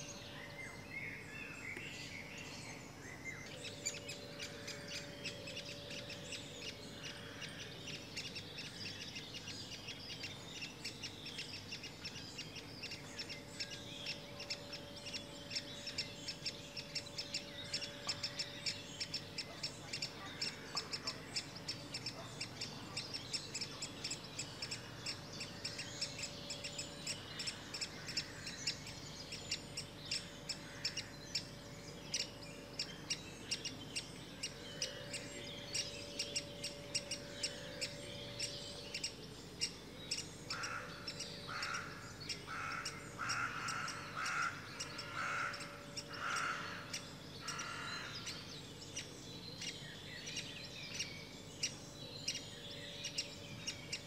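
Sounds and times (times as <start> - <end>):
woodpecker nestlings begging chatter: 3.2 - 54.0.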